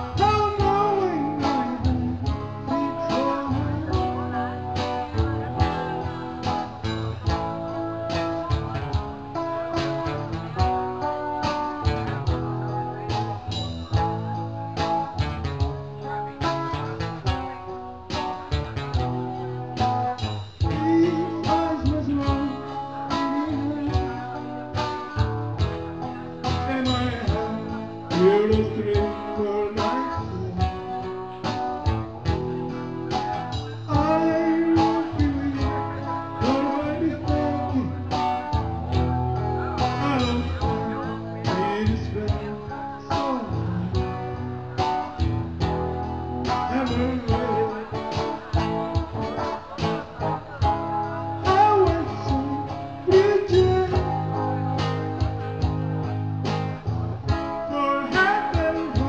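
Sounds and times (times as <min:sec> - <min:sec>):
guitar melody: 0:00.0 - 0:59.0
guitar strumming: 0:00.0 - 0:59.0.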